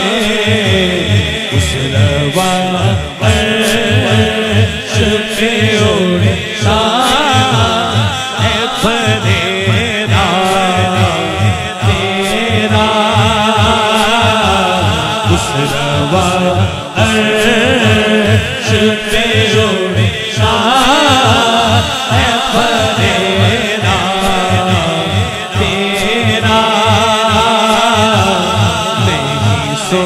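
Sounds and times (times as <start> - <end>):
man singing into microphone: 0.0 - 30.0
low drumbeat: 0.4 - 30.0.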